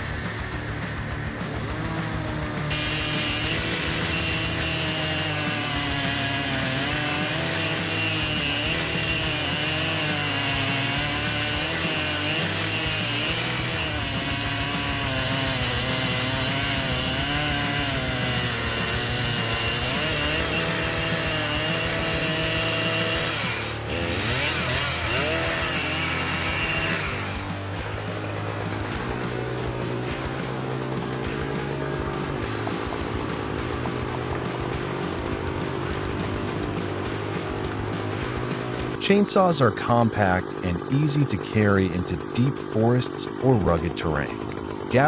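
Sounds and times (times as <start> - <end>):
chainsaw cutting wood: 0.0 - 45.0.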